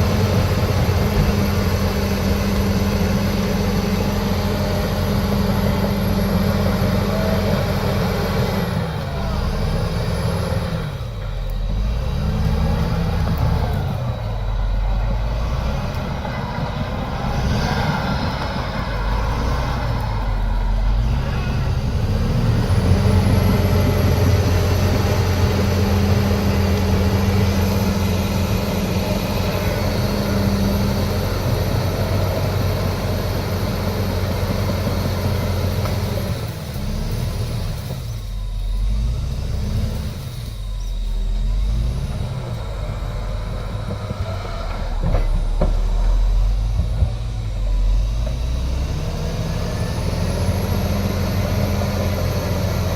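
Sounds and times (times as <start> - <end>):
heavy diesel engine working: 0.0 - 52.9.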